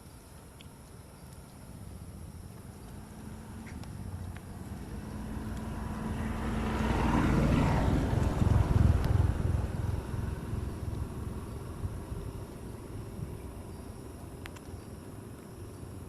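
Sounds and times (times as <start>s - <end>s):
motor vehicle passing by: 2.0s - 16.0s.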